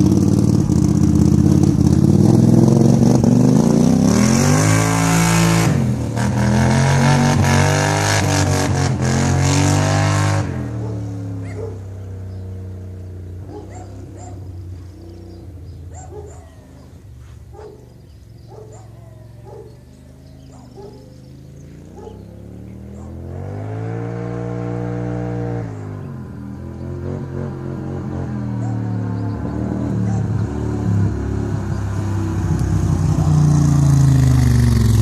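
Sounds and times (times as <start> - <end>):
engine revving and idling: 0.0 - 35.0.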